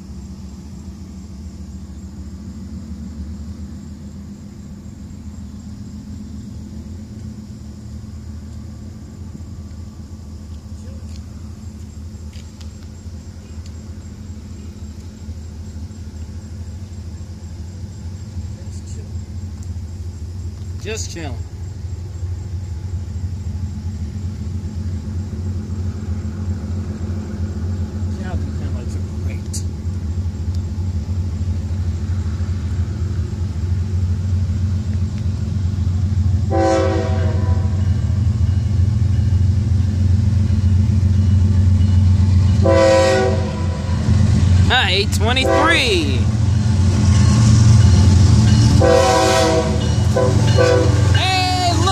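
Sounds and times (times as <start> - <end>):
diesel locomotive rumble: 0.0 - 51.9.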